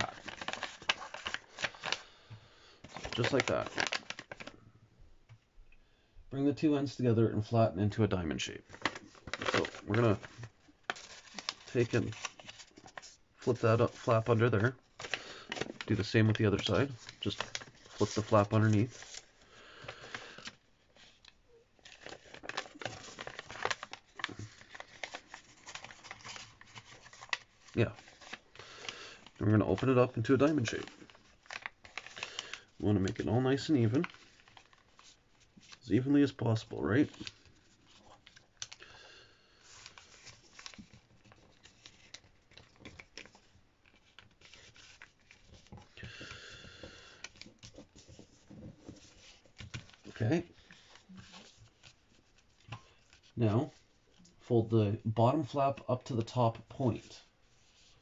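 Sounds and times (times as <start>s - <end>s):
paper crinkling and rustling: 0.0s - 2.1s, 2.8s - 4.5s, 8.6s - 54.5s, 55.6s - 58.0s.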